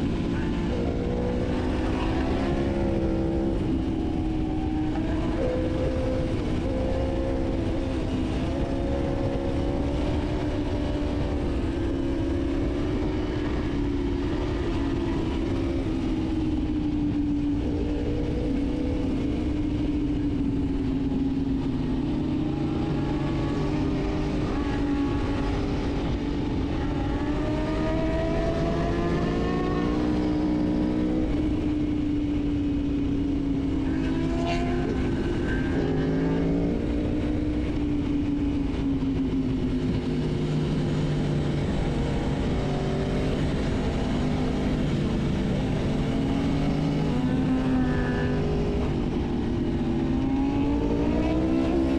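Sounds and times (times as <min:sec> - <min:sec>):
motorcycle engine running: 0:00.0 - 0:51.9
wind noise: 0:00.0 - 0:51.9.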